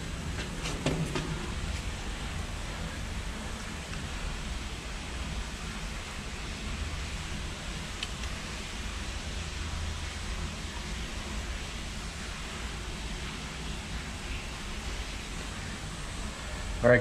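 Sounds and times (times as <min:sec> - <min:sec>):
tunnel ambience rumble and hiss: 0:00.0 - 0:17.0.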